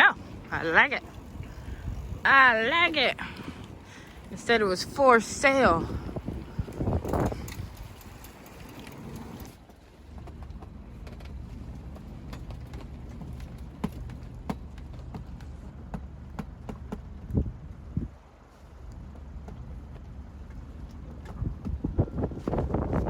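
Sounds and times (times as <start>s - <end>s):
boat engine hum: 0.0s - 23.0s.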